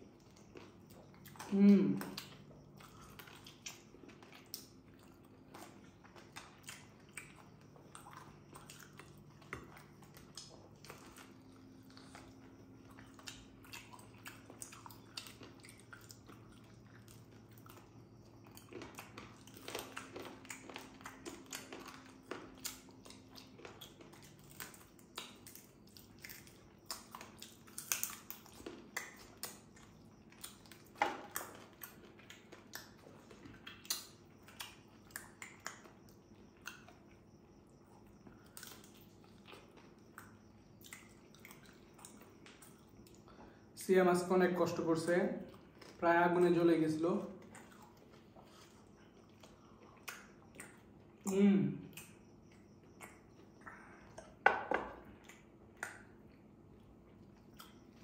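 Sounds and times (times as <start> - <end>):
people chewing and biting: 0.0 - 43.9, 44.7 - 46.5, 47.2 - 58.0.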